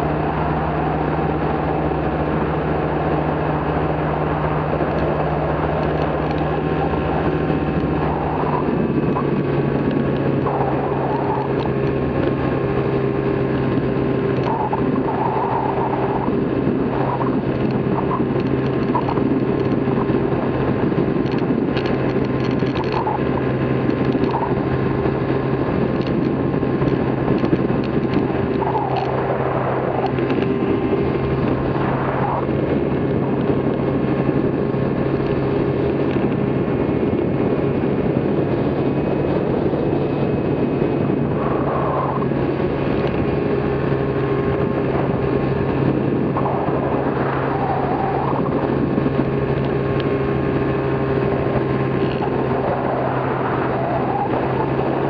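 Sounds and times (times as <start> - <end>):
small engine and propeller drone: 0.0 - 55.0
wind rushing over microphone: 0.0 - 55.0.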